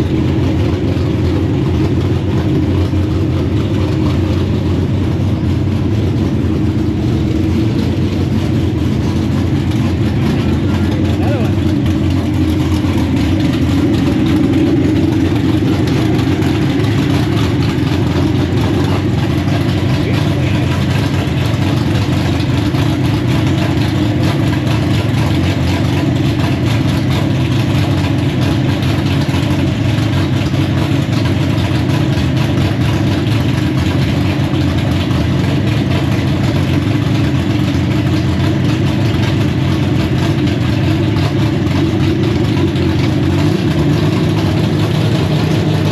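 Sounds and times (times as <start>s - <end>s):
loud car engine idling: 0.0s - 45.9s.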